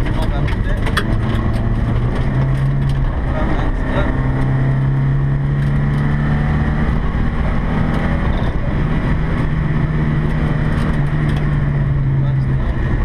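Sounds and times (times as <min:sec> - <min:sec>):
car engine at speed: 0:00.0 - 0:13.0.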